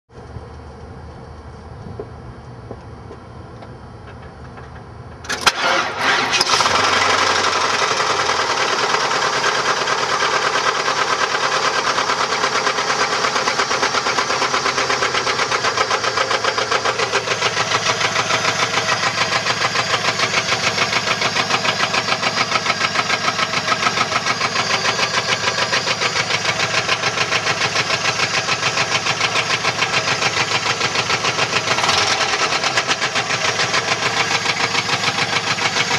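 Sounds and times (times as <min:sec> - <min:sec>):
engine running with rapid knock: 0:00.1 - 0:35.9
car engine starting: 0:04.1 - 0:35.9.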